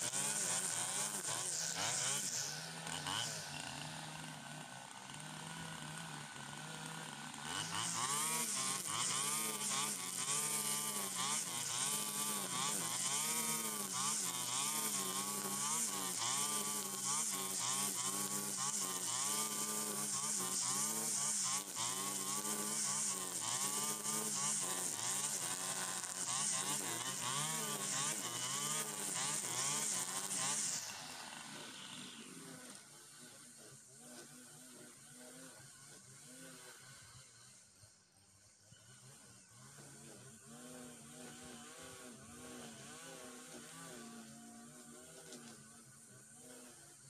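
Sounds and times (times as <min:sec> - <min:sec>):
brush cutter engine cutting grass: 0:00.0 - 0:47.0.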